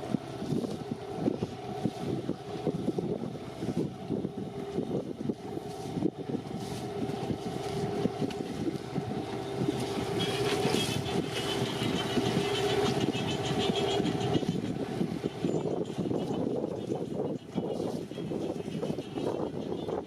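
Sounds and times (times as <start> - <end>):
motorboat engine droning: 0.0 - 20.0.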